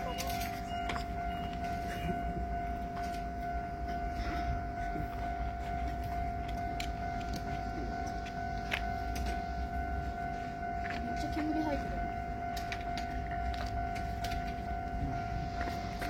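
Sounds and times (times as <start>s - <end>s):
train high whine: 0.0s - 16.0s
train rumble: 0.0s - 16.0s.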